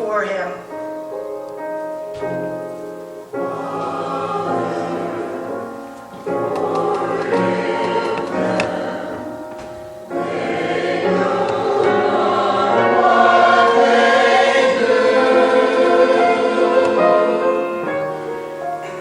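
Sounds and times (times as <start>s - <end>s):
choir singing with accompaniment: 2.2s - 19.0s.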